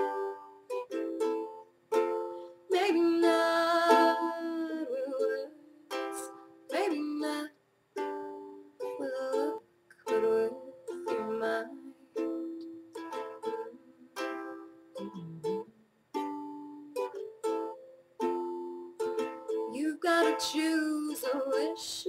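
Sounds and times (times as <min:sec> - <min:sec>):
ukulele strummed chords: 0:00.0 - 0:22.0.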